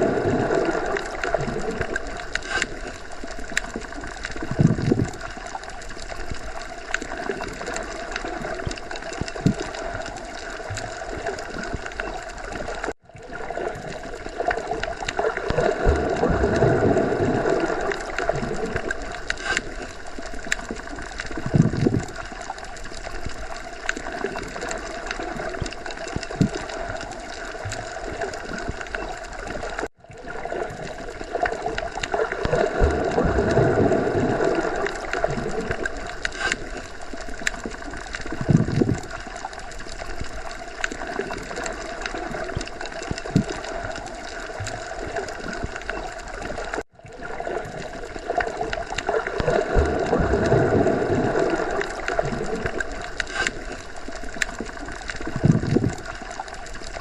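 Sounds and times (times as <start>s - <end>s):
underwater water wash: 0.0s - 57.0s.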